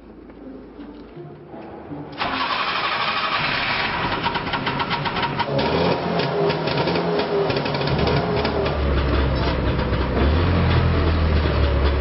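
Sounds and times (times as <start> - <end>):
two-stroke engine starting and running: 2.2 - 12.0.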